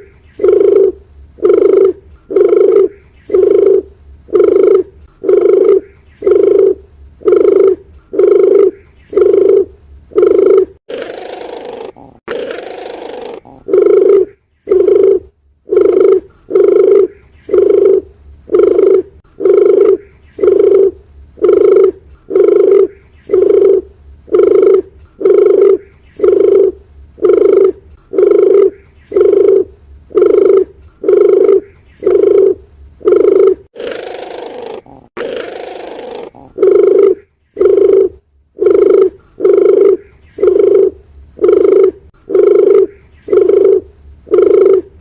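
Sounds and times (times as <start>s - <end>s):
dove cooing: 0.0s - 45.0s.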